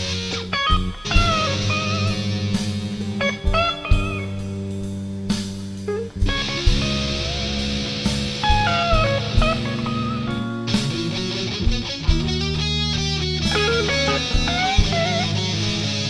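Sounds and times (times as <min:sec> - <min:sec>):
blues-rock backing band: 0:00.0 - 0:16.0
electric guitar lead lines: 0:00.0 - 0:16.0.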